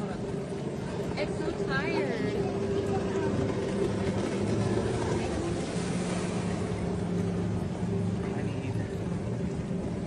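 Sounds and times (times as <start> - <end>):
motorboat engine humming: 0.0 - 10.0.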